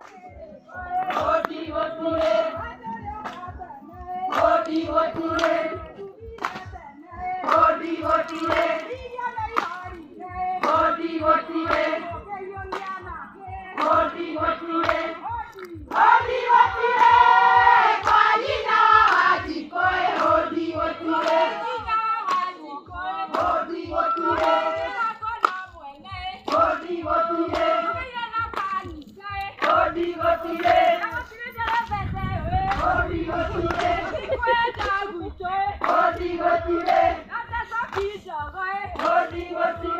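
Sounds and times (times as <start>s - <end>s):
rhythmic hand clapping: 0.0s - 39.9s
women singing in unison: 0.0s - 39.9s.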